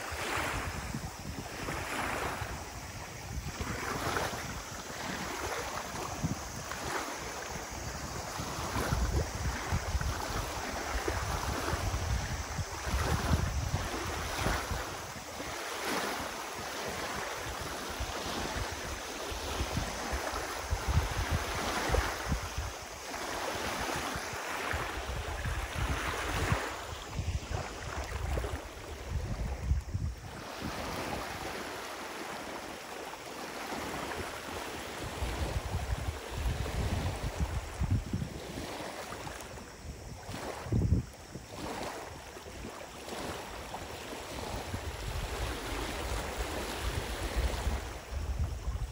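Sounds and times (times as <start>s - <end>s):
wind buffeting microphone: 0.0s - 32.6s, 33.6s - 48.9s
small waves lapping on shore: 0.0s - 48.9s.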